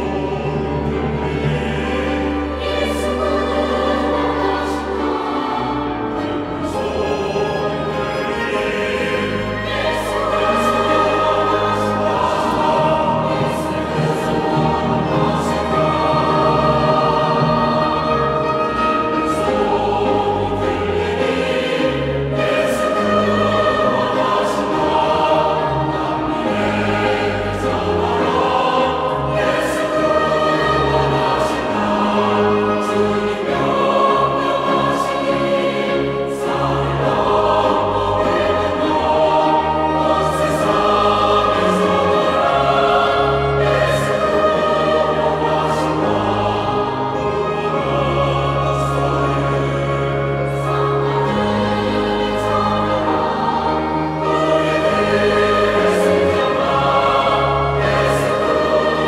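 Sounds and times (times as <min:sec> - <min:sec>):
choir singing a hymn: 0:00.0 - 0:59.0
organ: 0:00.0 - 0:59.0
piano: 0:00.0 - 0:59.0
violin: 0:00.0 - 0:59.0.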